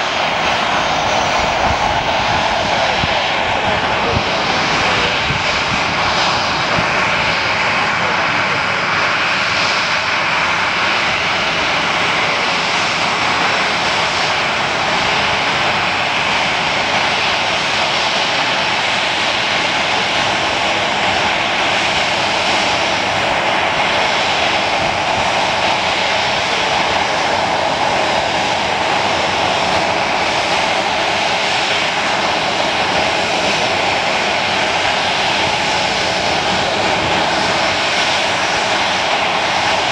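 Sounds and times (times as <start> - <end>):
jet engine roar and whine: 0.0 - 39.9.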